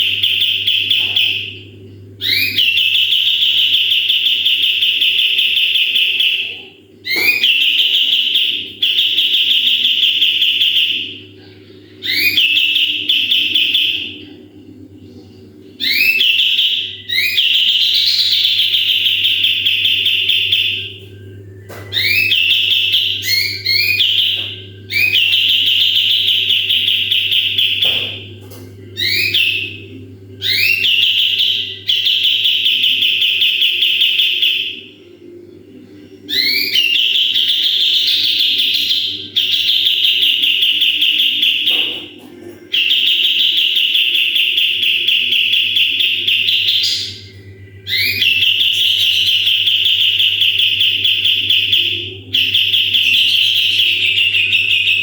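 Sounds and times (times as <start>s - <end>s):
bird singing trilled phrases: 0.0s - 11.2s, 12.0s - 14.3s, 15.7s - 34.9s, 36.3s - 55.0s
faint low hum: 0.0s - 55.0s.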